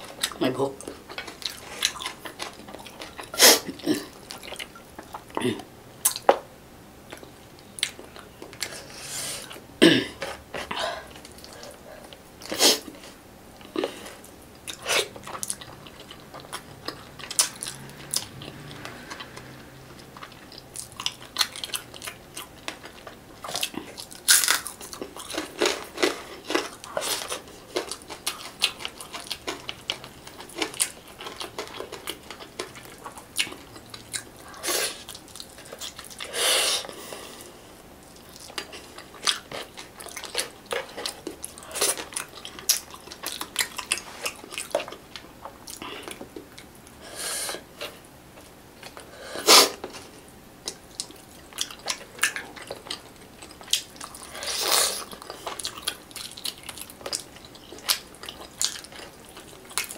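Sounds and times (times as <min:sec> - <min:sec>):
person chewing: 0:00.0 - 0:06.4, 0:07.1 - 0:59.9.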